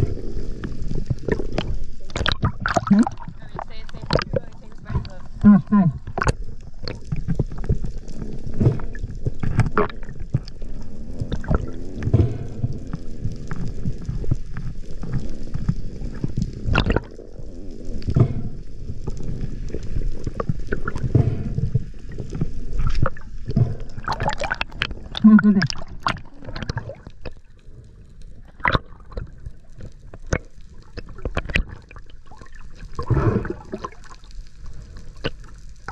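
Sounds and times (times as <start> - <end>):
underwater clicks and knocks: 0.0 - 10.6, 11.2 - 17.2, 18.0 - 27.6, 28.3 - 34.3
underwater rumble and gurgle: 0.0 - 35.9.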